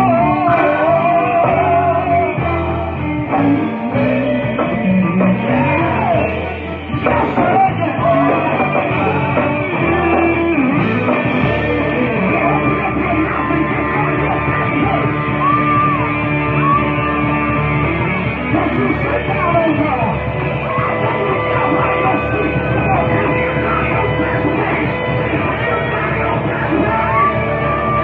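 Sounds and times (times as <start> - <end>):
person singing: 0.0 - 17.7, 18.5 - 28.0
gospel band playing: 0.0 - 28.0.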